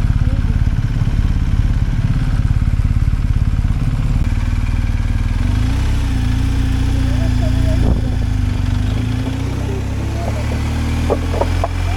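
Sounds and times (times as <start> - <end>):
motorcycle engine running at low revs: 0.0 - 11.9.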